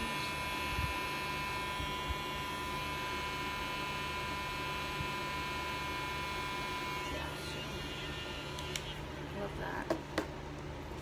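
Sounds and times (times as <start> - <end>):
handheld fan motor whine: 0.0 - 11.0.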